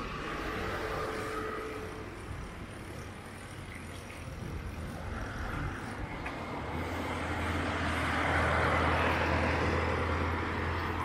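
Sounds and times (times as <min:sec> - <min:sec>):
vehicle passing close by: 0:00.0 - 0:02.5, 0:04.5 - 0:11.0.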